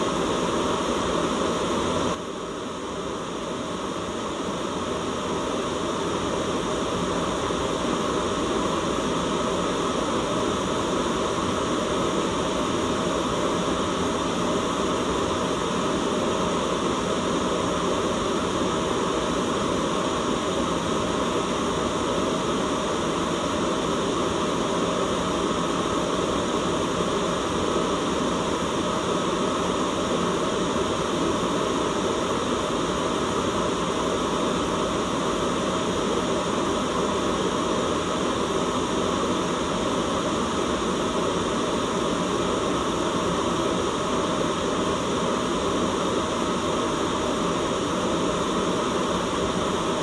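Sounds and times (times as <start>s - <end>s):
white noise: 0.0s - 50.0s.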